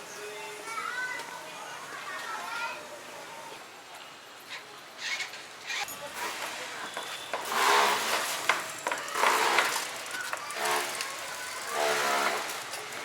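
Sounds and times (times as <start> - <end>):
faint outdoor background noise: 0.0 - 13.0
people talking and calling out: 0.0 - 13.0.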